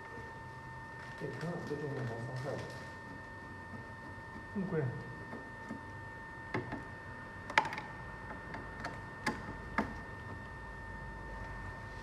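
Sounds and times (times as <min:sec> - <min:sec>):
steady high tone hum: 0:00.0 - 0:12.0.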